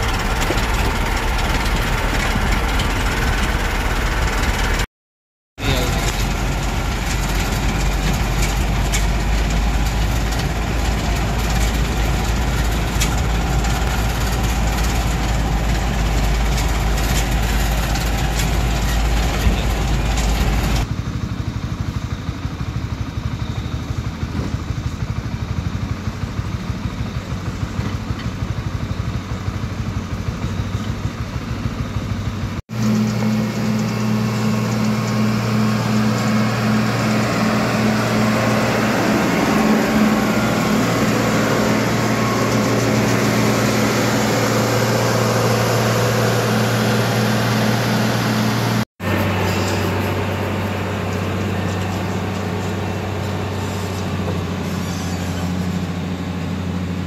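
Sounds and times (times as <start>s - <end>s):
heavy machinery diesel engines: 0.0s - 4.9s, 5.6s - 57.0s
motor grader diesel engine: 0.0s - 4.9s, 5.6s - 57.0s
vehicle on rough dirt road: 0.0s - 4.9s, 5.6s - 57.0s.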